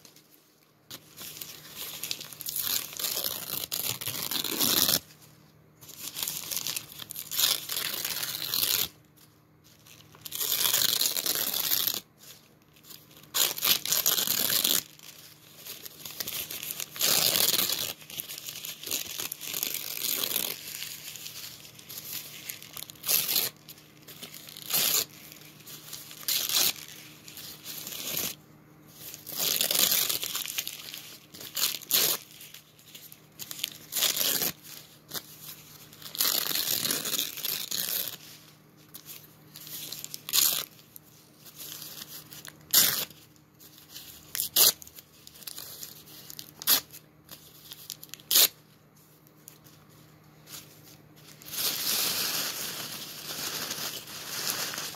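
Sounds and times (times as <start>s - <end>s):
wrapping paper tearing and crinkling: 0.9s - 5.2s, 5.8s - 48.6s, 49.4s - 54.9s.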